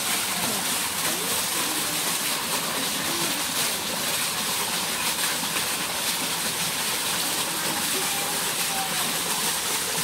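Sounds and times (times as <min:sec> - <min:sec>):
fountain splashing into pond: 0:00.0 - 0:10.0.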